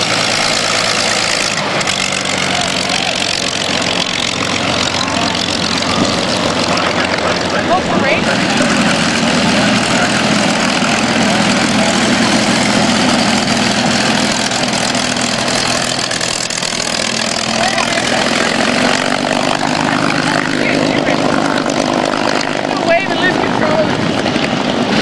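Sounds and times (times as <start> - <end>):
propeller aircraft engine humming: 0.0 - 25.0.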